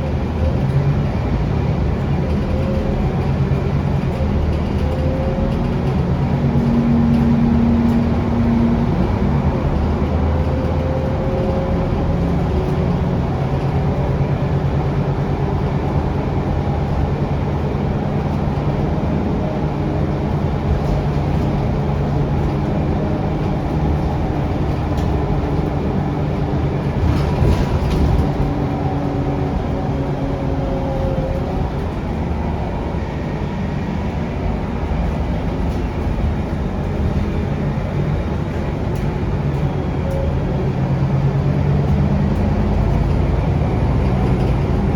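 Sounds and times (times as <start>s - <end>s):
bus engine drone: 0.0s - 44.9s.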